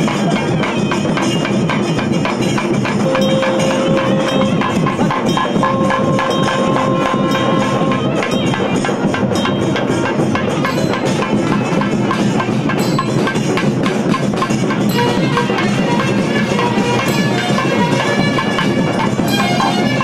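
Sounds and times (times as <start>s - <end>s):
rhythmic hand percussion: 0.0s - 20.0s.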